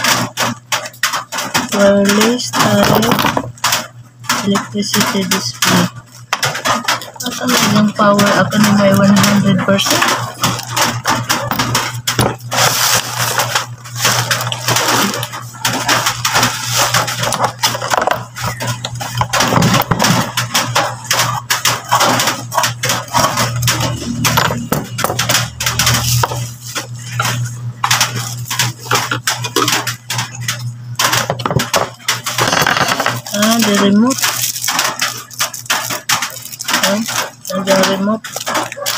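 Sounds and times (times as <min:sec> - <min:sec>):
plastic and bubble wrap crinkling: 0:00.0 - 0:38.9
steady low hum: 0:00.0 - 0:38.9.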